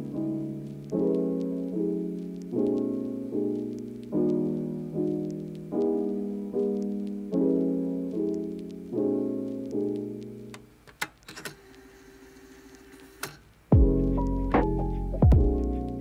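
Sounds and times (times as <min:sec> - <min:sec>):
soft piano music: 0:00.0 - 0:10.7, 0:13.7 - 0:16.0.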